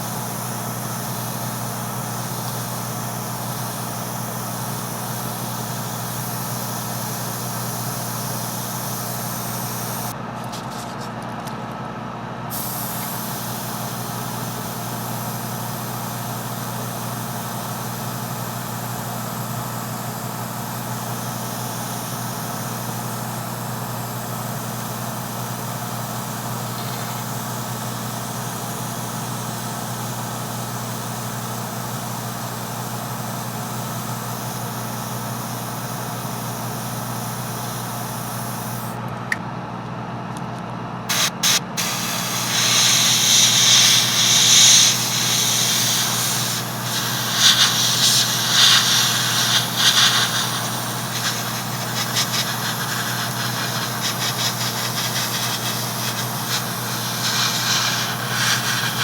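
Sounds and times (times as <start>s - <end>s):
airbrush hissing: 0.0s - 10.2s, 12.5s - 39.0s, 41.1s - 59.0s
compressor humming: 0.0s - 59.0s.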